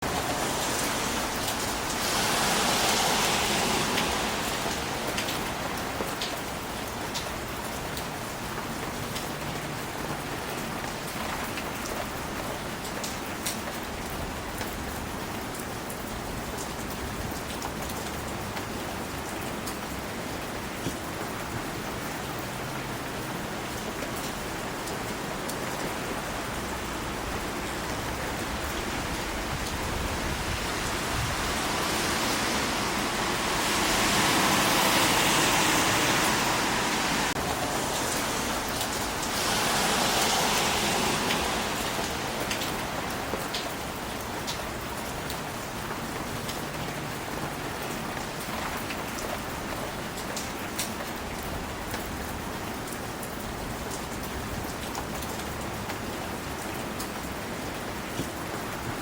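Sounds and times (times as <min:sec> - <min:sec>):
steady rain on leaves: 0:00.0 - 0:59.0.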